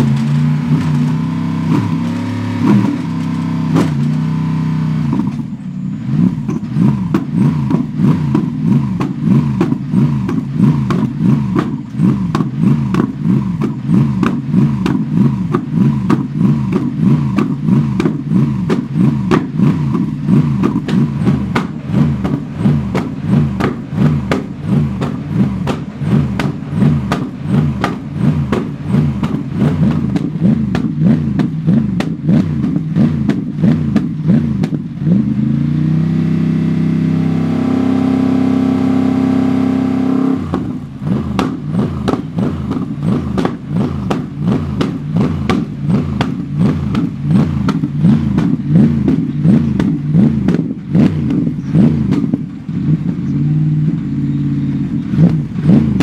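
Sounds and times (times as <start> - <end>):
exhaust cracks: 0.0 - 56.0
race car engine revving: 0.0 - 56.0.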